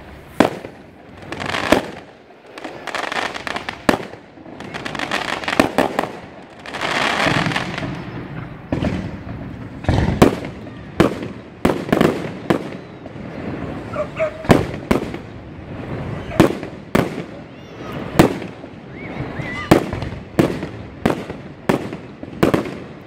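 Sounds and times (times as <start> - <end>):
fireworks bangs: 0.0 - 23.0
fireworks crackling hiss: 0.0 - 23.0.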